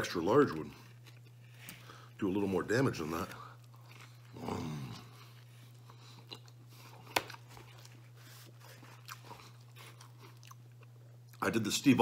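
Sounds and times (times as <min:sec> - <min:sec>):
pizza crust crunching: 0:00.0 - 0:11.5
steady low hum: 0:00.0 - 0:12.0
man chewing pizza: 0:00.1 - 0:11.5.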